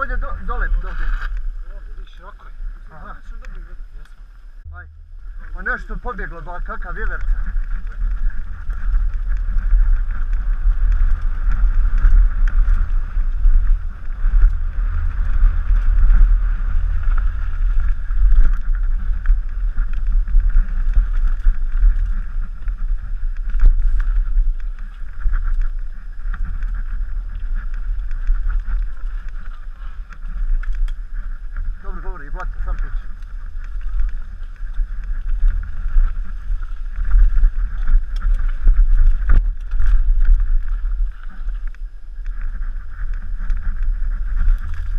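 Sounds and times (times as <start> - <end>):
wind and tyres rumbling: 0.0 - 44.9
bike knocking on bumps: 4.7 - 44.9.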